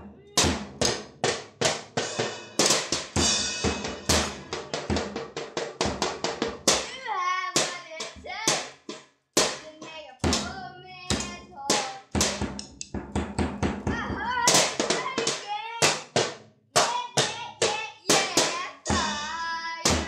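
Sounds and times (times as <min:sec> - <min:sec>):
drum hits with cymbal crashes: 0:00.0 - 0:06.9, 0:08.5 - 0:19.3.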